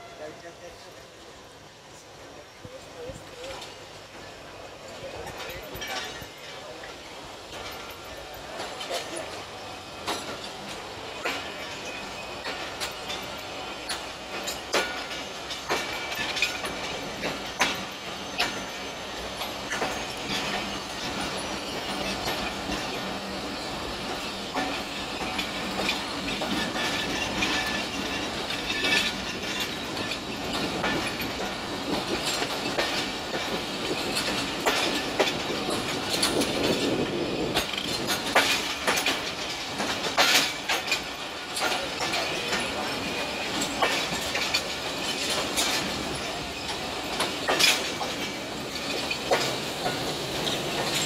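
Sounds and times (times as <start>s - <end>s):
train wheels rumbling on rail: 0.0s - 51.0s
wheels clacking over rail joints: 2.3s - 51.0s.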